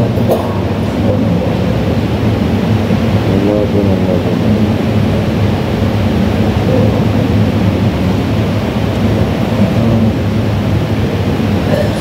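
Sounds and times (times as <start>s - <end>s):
faint voices murmuring: 0.0s - 10.5s, 11.1s - 12.0s
loud steady rumbling: 0.0s - 12.0s.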